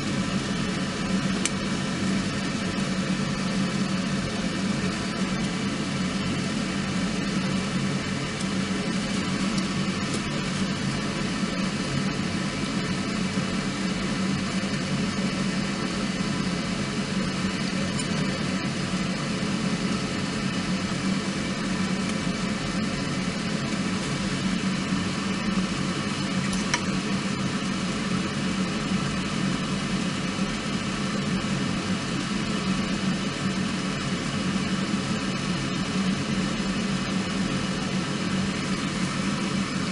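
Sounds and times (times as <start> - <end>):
steady hum and hiss: 0.0 - 39.9.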